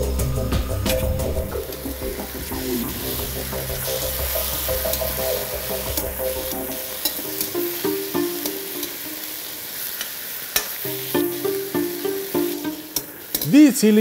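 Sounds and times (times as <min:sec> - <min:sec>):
background music: 0:00.0 - 0:09.9, 0:10.7 - 0:14.0
sauce sizzling in a wok: 0:01.2 - 0:14.0.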